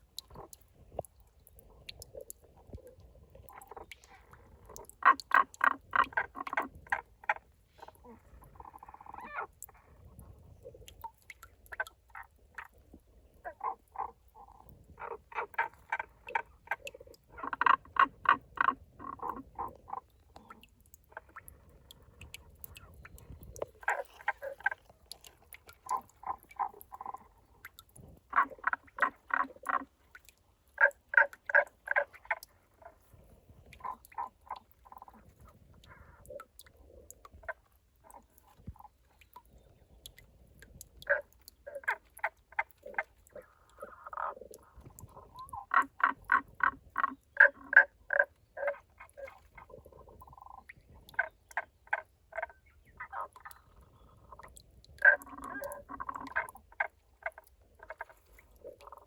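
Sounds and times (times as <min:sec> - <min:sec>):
frog rattling croaks: 0:03.3 - 0:12.8, 0:13.4 - 0:39.4, 0:41.0 - 0:59.0.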